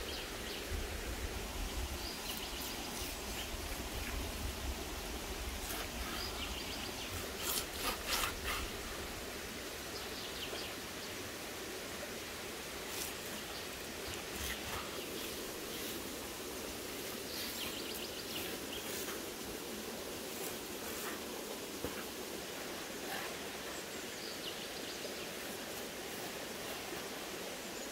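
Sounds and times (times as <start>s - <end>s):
outdoor background noise: 0.0s - 27.9s.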